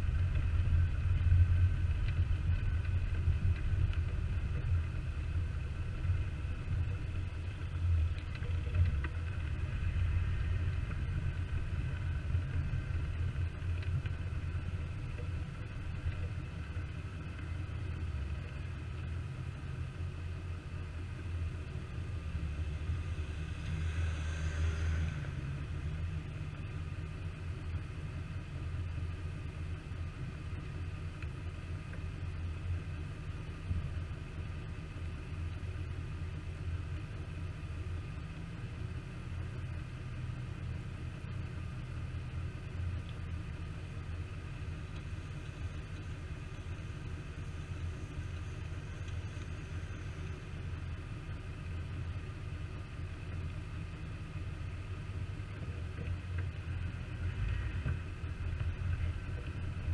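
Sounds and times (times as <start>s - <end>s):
engine running at low revs: 0.0s - 59.9s.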